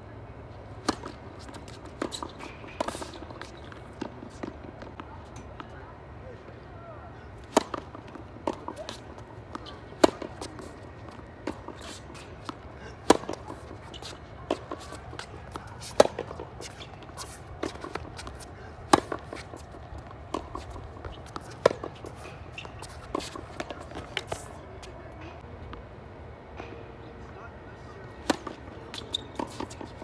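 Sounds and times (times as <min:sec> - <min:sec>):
tennis ball hitting racket: 0:00.7 - 0:05.6, 0:07.3 - 0:25.3, 0:28.2 - 0:30.0
tennis ball bouncing: 0:00.7 - 0:05.7, 0:07.3 - 0:25.4, 0:28.2 - 0:30.0.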